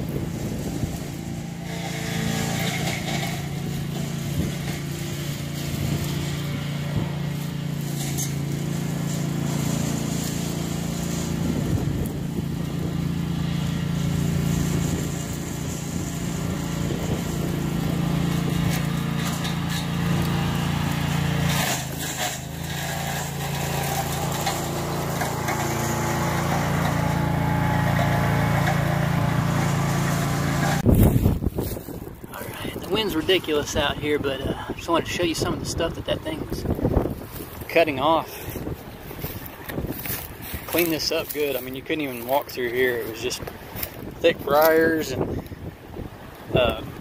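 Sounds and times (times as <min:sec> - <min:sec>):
mower engine running: 0:00.0 - 0:47.0.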